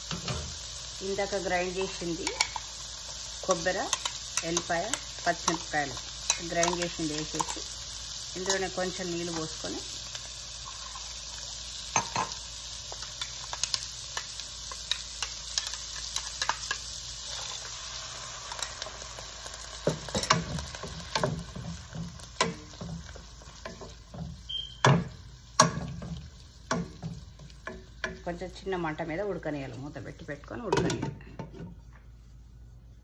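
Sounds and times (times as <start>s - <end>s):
food sizzling in oil: 0.0s - 30.8s.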